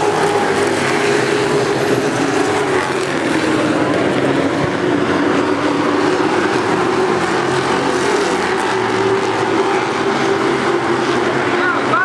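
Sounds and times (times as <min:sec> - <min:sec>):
race truck engines at speed: 0:00.0 - 0:12.0.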